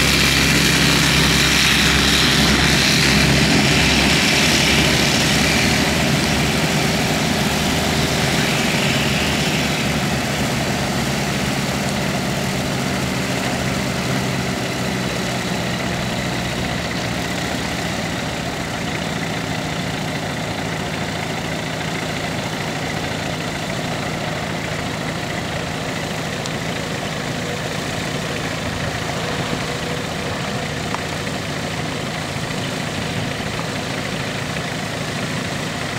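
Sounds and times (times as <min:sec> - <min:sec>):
idling engine hum: 0:00.0 - 0:35.9
light plane engine at takeoff power: 0:00.0 - 0:35.9.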